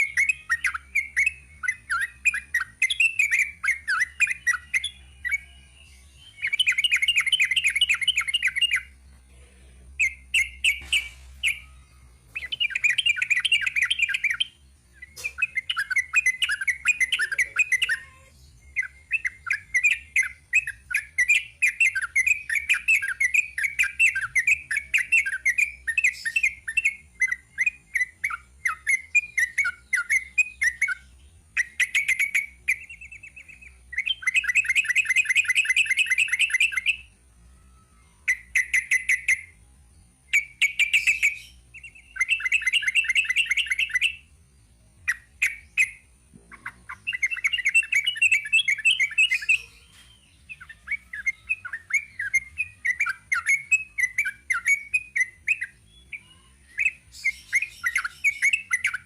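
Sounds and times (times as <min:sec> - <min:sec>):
bird chattering song: 0:00.0 - 0:37.1, 0:38.2 - 0:39.6, 0:40.2 - 0:44.3, 0:45.0 - 0:59.0.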